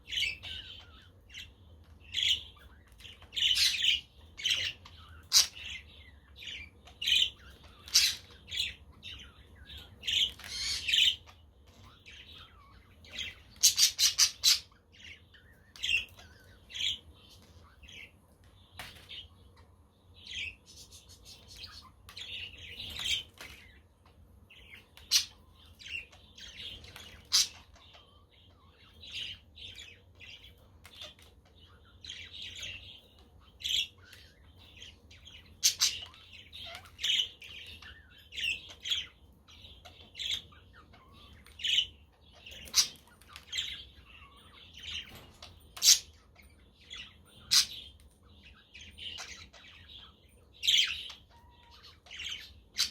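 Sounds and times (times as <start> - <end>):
budgerigars chirping: 0.0 - 52.9.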